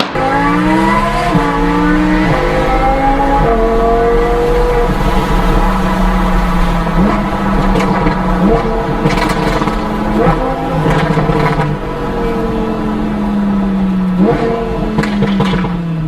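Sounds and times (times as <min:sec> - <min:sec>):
exhaust crackles and pops: 0:00.0 - 0:16.0
sports car engine downshifting: 0:00.0 - 0:16.0.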